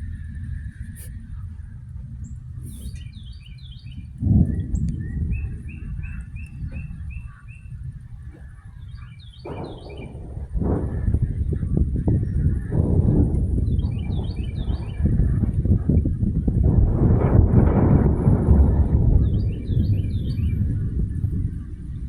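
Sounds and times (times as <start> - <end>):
birds chirping: 0.0 - 16.8, 18.1 - 22.0
low rumble: 0.0 - 22.0.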